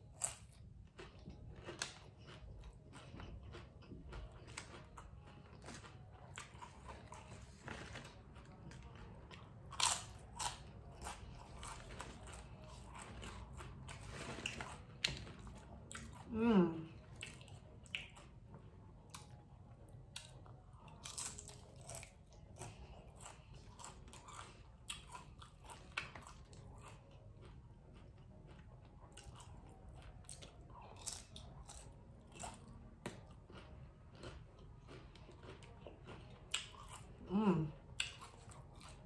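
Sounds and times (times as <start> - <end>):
crunching tortilla chips: 0.0 - 16.2, 20.2 - 39.0
wet chewing: 0.0 - 16.3, 16.9 - 18.4, 20.1 - 39.0.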